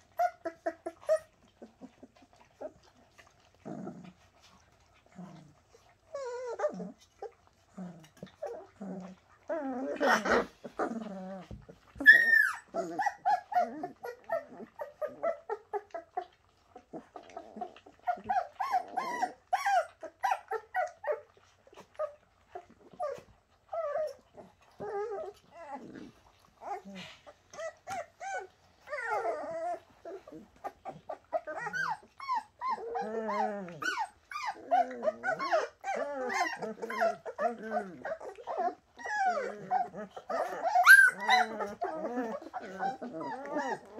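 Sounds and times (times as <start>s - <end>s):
puppies whining and yipping: 0.0s - 43.9s.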